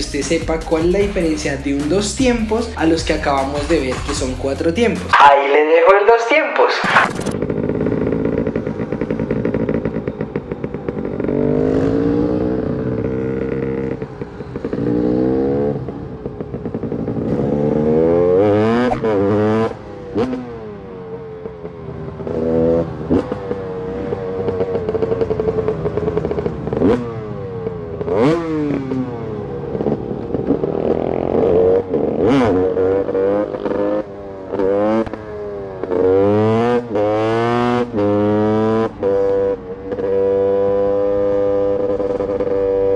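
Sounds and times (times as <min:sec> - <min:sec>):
two-stroke motorcycle engine revving: 0:00.0 - 0:05.1, 0:07.0 - 0:42.9.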